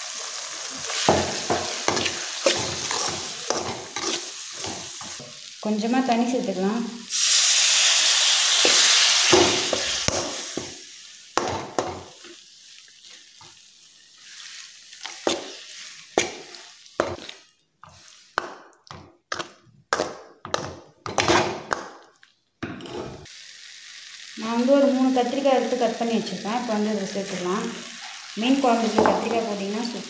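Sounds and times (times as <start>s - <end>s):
water sizzling in hot pan: 0.0s - 18.4s, 23.2s - 30.0s.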